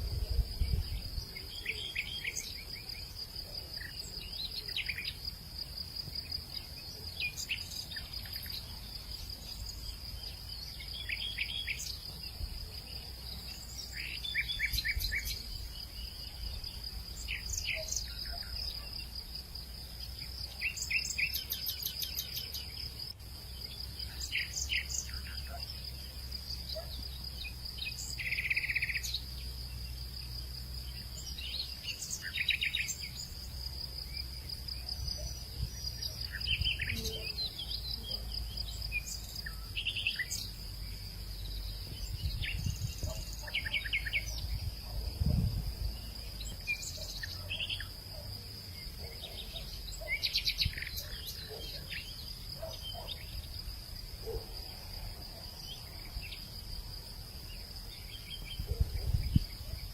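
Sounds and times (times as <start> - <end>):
insect trill: 0.0 - 59.9.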